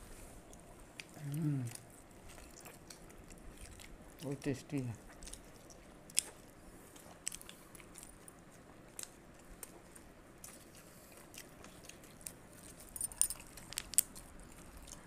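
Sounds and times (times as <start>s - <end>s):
people chewing: 0.4s - 15.0s.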